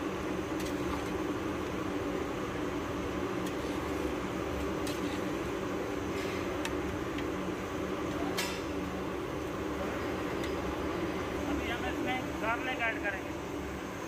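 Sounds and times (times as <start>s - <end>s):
mechanical kitchen hum: 0.0s - 14.0s.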